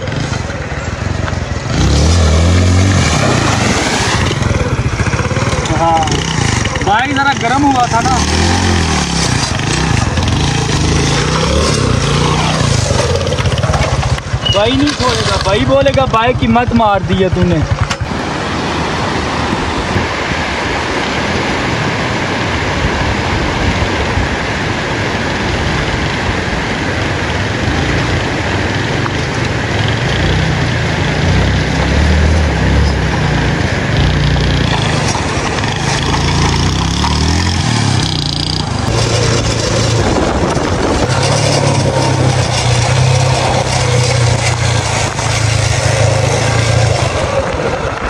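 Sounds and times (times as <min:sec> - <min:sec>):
motorcycle engine running: 0:00.0 - 0:18.2, 0:27.4 - 0:48.0
mountain stream rushing: 0:00.0 - 0:48.0.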